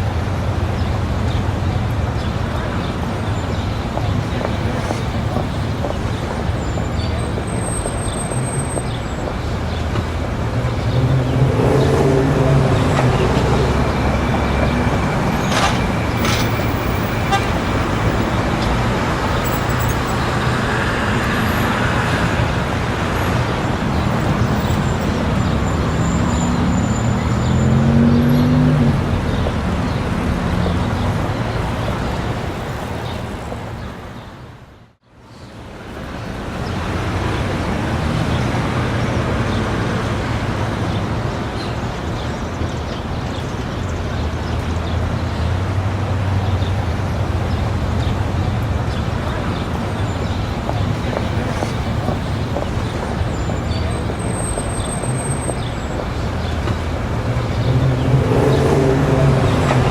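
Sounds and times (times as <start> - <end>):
people talking on street: 0.0 - 59.9
traffic noise: 0.0 - 59.9
vehicles passing: 0.0 - 59.9.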